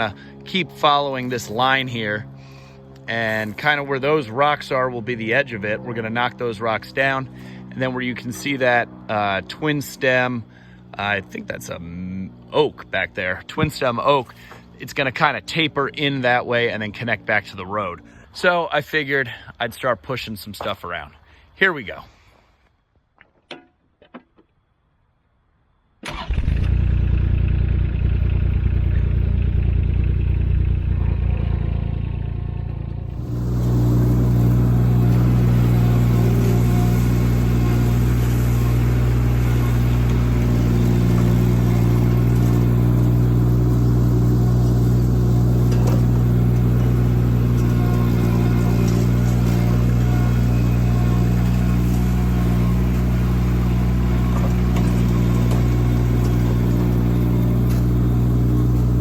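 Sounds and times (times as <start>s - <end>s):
skid steer engine running: 0.0s - 19.4s, 26.1s - 59.0s.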